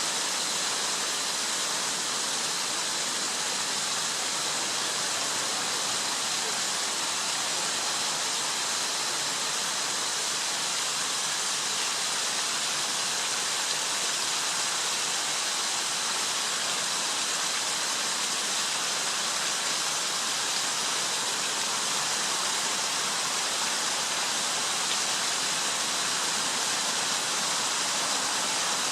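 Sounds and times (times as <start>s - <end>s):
stream water rushing: 0.0s - 28.9s.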